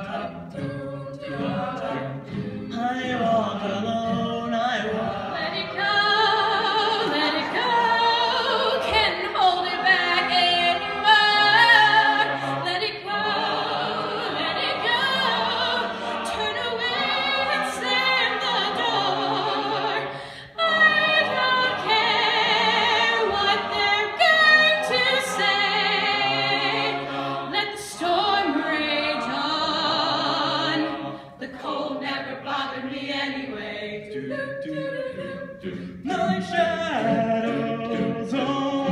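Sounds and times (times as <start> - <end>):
a cappella group singing: 0.0 - 38.9.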